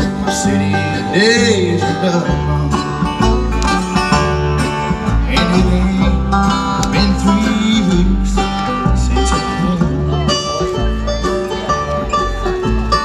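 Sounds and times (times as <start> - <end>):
person singing: 0.0 - 11.0
bluegrass band playing live: 0.0 - 13.0.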